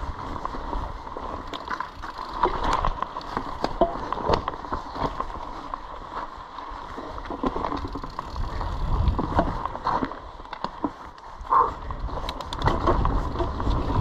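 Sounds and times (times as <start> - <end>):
bike clicks and rattles: 0.0 - 14.0
bike tyres rolling over dirt: 0.0 - 14.0.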